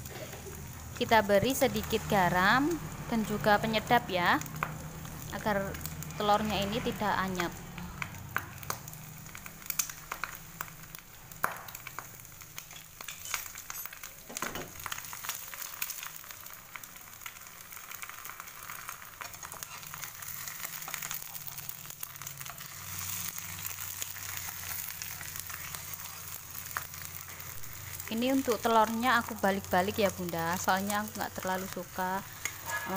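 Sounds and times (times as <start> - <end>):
eggs sizzling in hot oil: 0.0 - 32.9
oil crackling and popping: 0.0 - 32.9.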